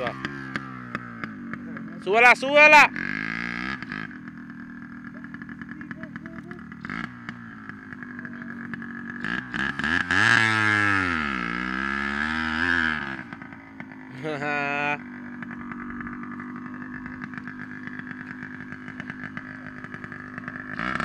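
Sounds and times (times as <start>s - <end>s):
off-road engine revving: 0.0s - 21.0s.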